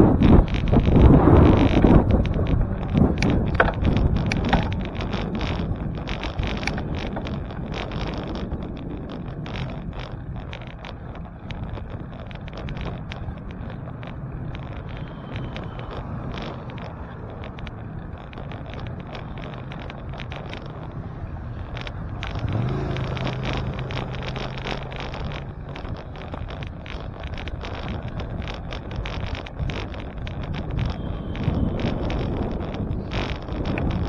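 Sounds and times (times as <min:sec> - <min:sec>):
bicycle road rumble: 0:00.0 - 0:34.0
wind on microphone: 0:00.0 - 0:34.0
rattling clicks: 0:00.4 - 0:34.0.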